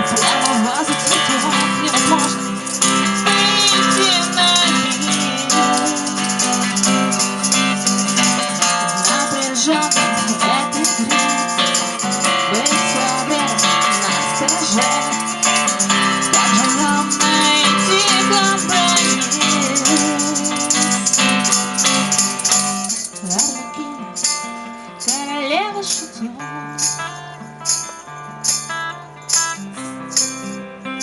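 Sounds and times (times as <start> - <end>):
shaker rattling: 0.0 - 30.7
strummed acoustic guitar: 0.0 - 31.0.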